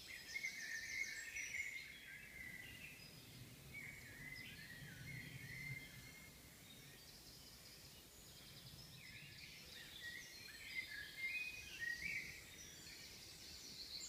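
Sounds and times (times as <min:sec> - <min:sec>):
low steady background hiss: 0:00.0 - 0:14.0
songbirds chirping and trilling: 0:00.0 - 0:14.0.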